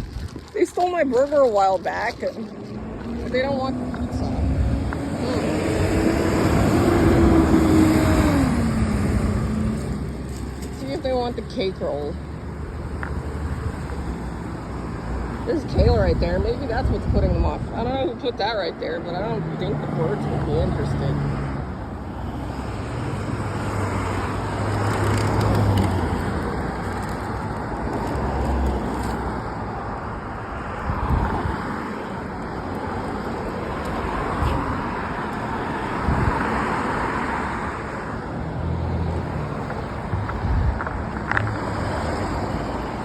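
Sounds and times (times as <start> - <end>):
cars passing: 0.0 - 43.0
road noise: 0.0 - 43.0.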